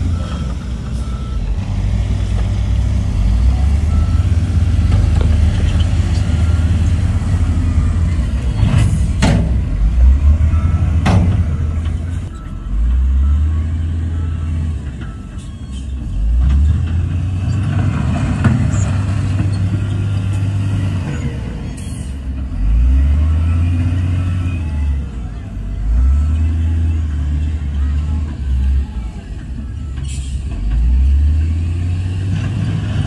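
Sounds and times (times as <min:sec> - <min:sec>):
heavy diesel machinery rumbling: 0:00.0 - 0:33.0.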